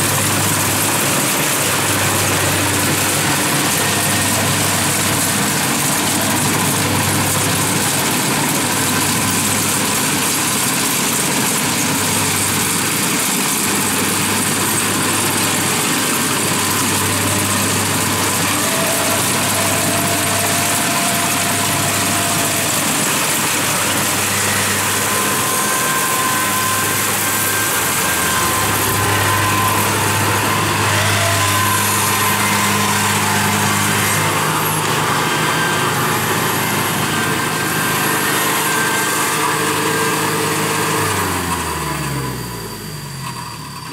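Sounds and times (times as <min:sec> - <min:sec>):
combine harvester diesel engine: 0:00.0 - 0:43.9.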